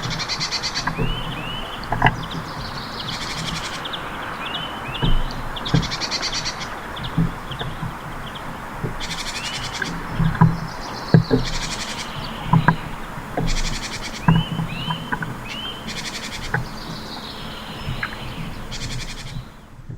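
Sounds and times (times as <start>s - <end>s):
songbirds trilling: 0.0s - 19.9s.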